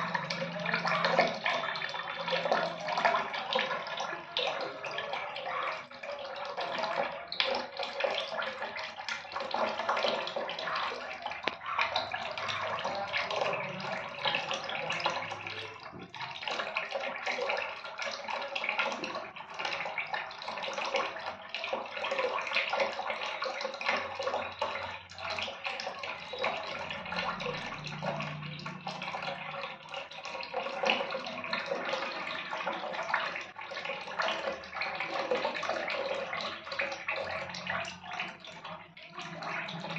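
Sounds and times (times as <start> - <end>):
tap water splashing into sink: 0.0 - 39.9.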